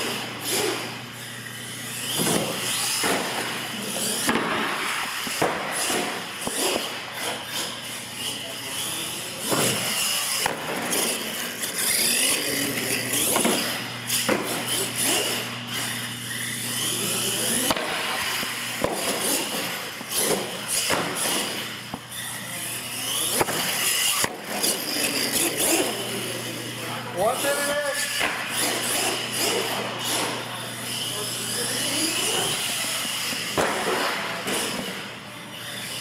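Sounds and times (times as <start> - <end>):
toy truck motors whining: 0.0 - 4.3, 4.9 - 36.0.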